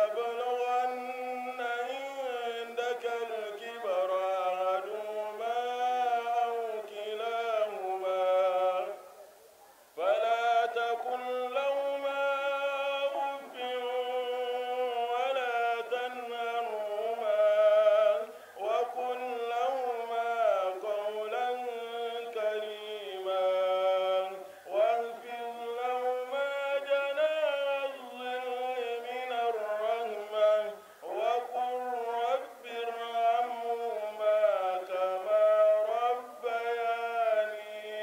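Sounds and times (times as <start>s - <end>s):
man chanting into microphone: 0.0s - 9.2s, 10.0s - 38.0s.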